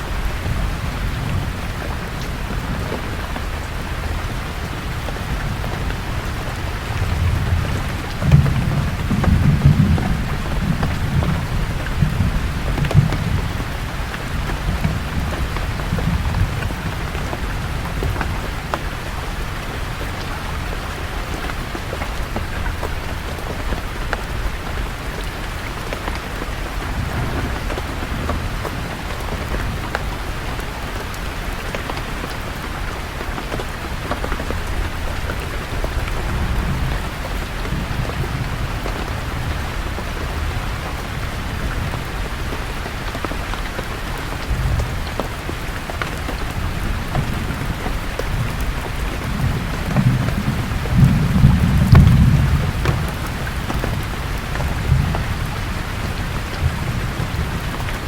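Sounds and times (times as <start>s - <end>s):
rain falling on leaves: 0.0s - 58.0s
thunder rumbling: 0.0s - 58.0s.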